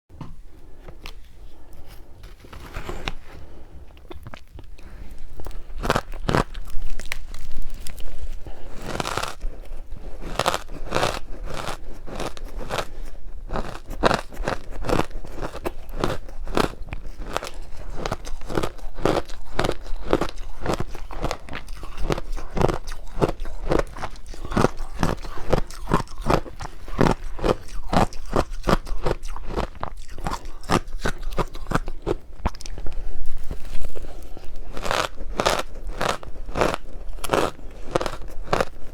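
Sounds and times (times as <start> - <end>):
ice crunching while chewed: 1.0 - 38.9.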